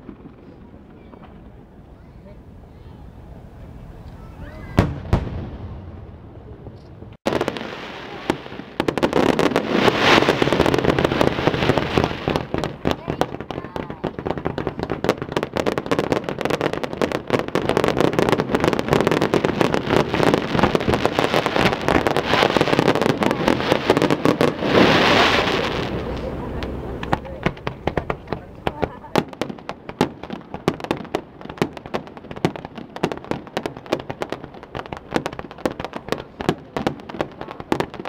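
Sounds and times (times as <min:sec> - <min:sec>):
fireworks crackling: 0:00.0 - 0:38.0.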